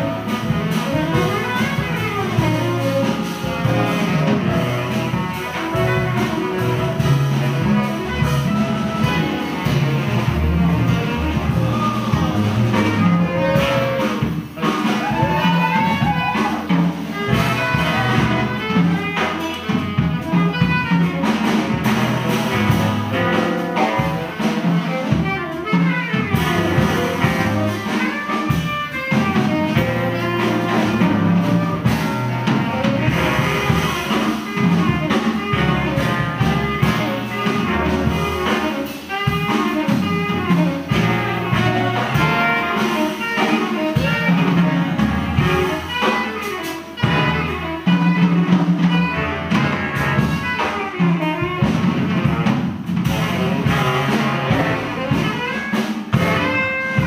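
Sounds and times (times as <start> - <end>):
jazz band playing: 0.0 - 57.0.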